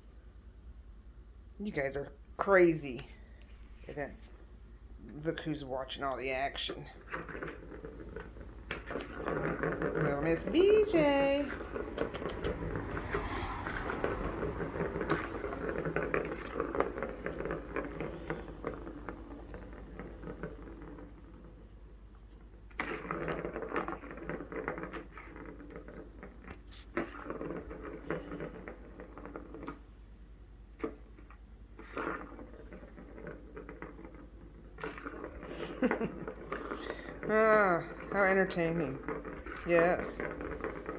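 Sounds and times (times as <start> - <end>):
ball toy rolling and rattling: 1.6 - 40.9.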